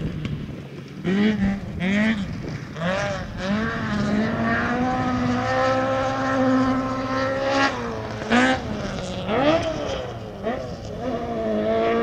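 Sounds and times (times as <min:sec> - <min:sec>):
rally car engine revving high: 0:01.0 - 0:12.0.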